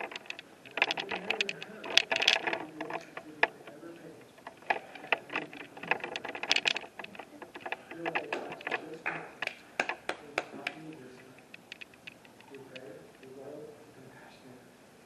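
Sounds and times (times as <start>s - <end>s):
sharp clicks and taps: 0.0s - 3.8s, 4.4s - 13.4s
low murmured voices: 0.0s - 14.8s.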